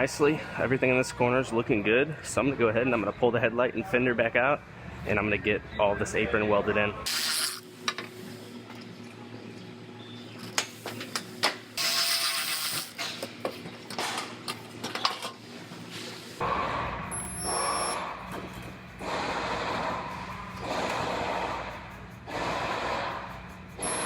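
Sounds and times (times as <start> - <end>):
workshop noise with low hum: 0.0 - 24.0.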